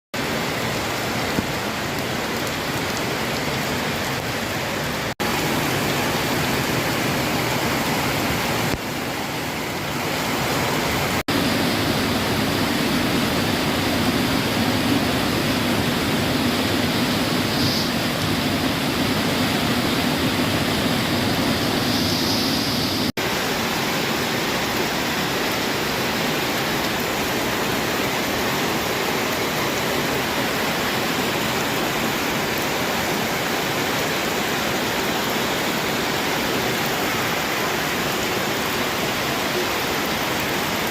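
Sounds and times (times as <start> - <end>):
rushing water: 0.2 - 40.9.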